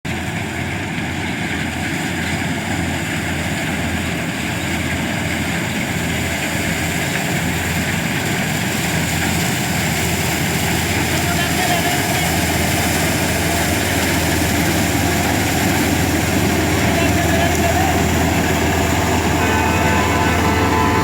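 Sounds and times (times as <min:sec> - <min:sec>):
combine harvester engine drone: 0:00.1 - 0:21.0.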